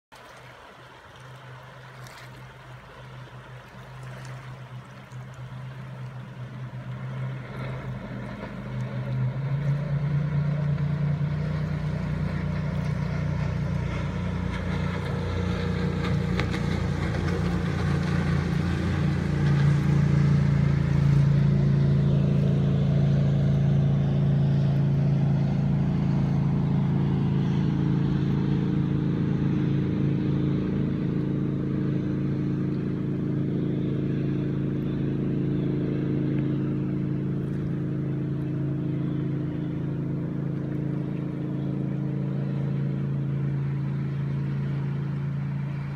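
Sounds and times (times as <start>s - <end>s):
boat engine running at speed: 0.1s - 45.9s.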